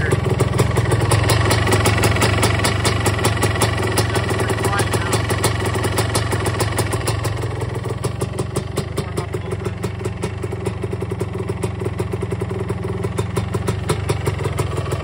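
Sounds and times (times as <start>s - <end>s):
two-stroke engine idling: 0.0s - 15.0s.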